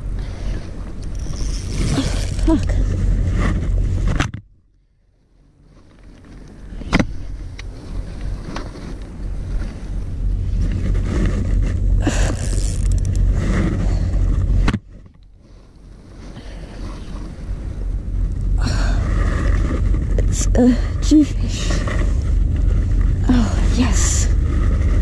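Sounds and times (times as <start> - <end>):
wind rumbling on microphone: 0.0 - 4.6, 5.3 - 25.0.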